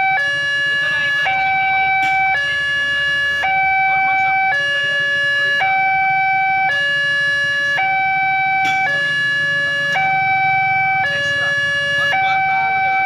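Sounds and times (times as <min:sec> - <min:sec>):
level crossing two-tone alarm: 0:00.0 - 0:13.0.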